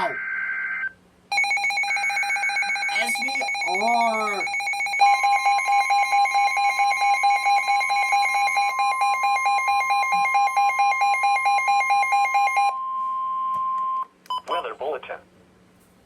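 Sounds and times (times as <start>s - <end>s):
emergency alert two-tone signal: 0.0s - 14.4s.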